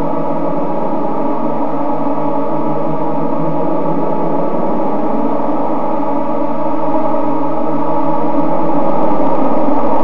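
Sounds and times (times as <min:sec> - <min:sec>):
synthesized drones: 0:00.0 - 0:10.0.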